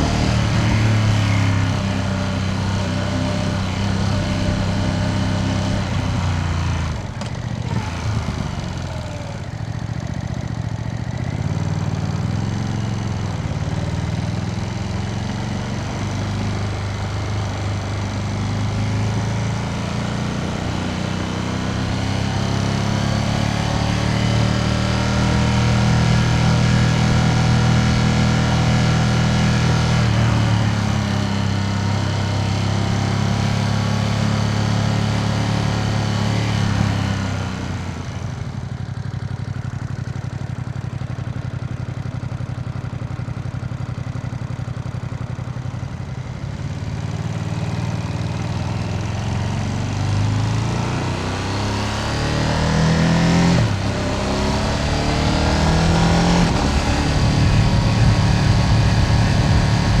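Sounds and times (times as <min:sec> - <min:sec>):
motorcycle engine and exhaust: 0:00.0 - 1:00.0.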